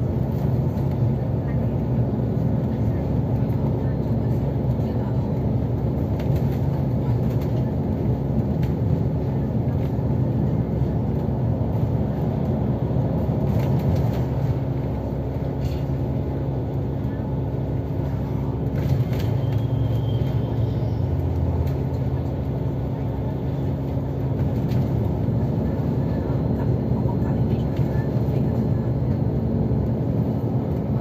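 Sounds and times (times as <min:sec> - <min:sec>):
vehicle engine and road rumble: 0:00.0 - 0:31.0.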